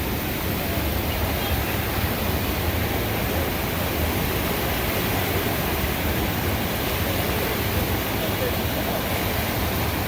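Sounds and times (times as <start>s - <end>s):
river rushing loudly: 0.0s - 10.0s.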